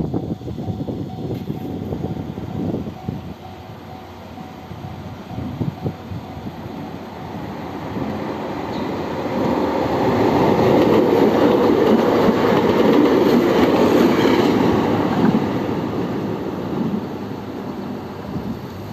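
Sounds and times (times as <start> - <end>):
electric train passing: 0.0 - 18.9.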